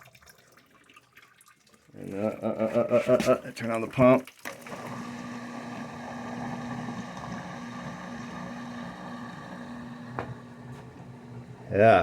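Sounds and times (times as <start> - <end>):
water pumping out: 0.0 - 11.8
drain pump humming: 1.9 - 12.0.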